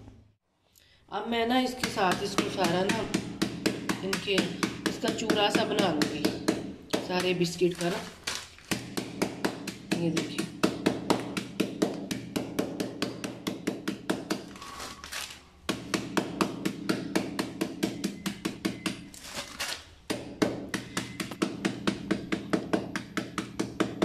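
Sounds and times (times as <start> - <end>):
biscuits pounded on countertop: 1.7 - 14.6, 15.6 - 24.0.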